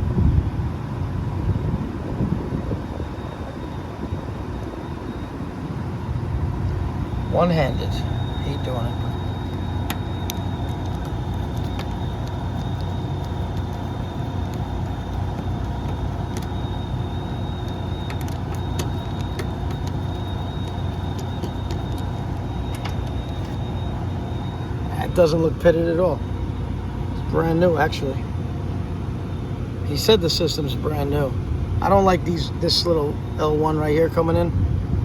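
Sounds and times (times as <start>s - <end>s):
air conditioning unit humming: 0.0s - 35.0s.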